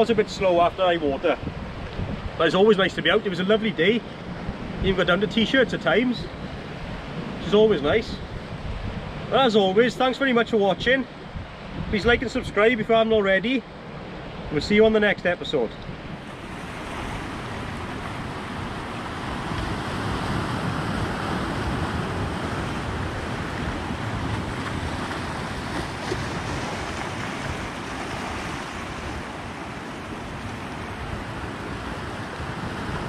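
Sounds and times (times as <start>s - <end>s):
sea surf washing over rocks: 0.0s - 33.0s.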